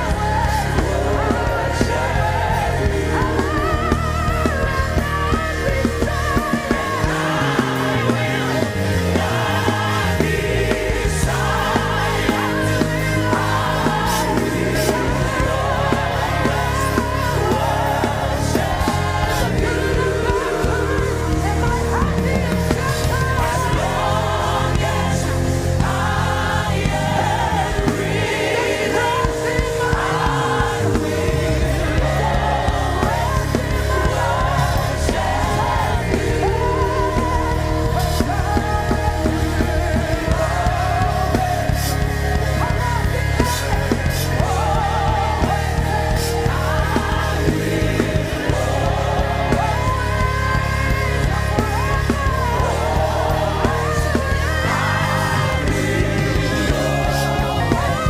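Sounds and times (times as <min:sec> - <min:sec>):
band with bass and drums: 0:00.0 - 0:58.0
voices singing: 0:00.0 - 0:58.0.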